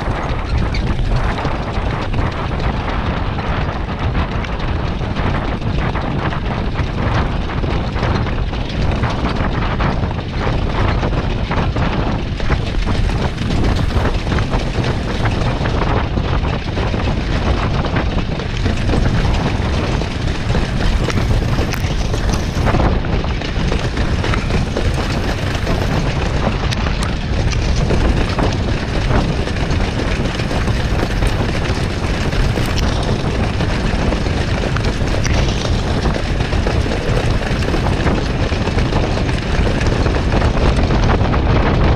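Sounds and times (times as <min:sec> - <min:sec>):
hooves and wheels rattling on dirt: 0:00.0 - 0:41.9
wind rushing: 0:00.0 - 0:41.9.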